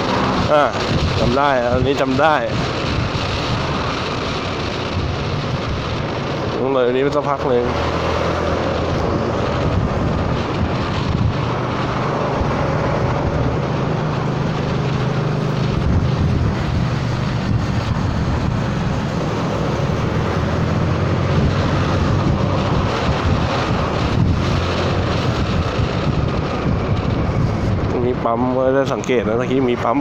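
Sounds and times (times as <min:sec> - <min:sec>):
scooter engine running: 0:00.0 - 0:01.4, 0:02.1 - 0:06.6, 0:07.3 - 0:27.8
wind on microphone: 0:00.0 - 0:30.0.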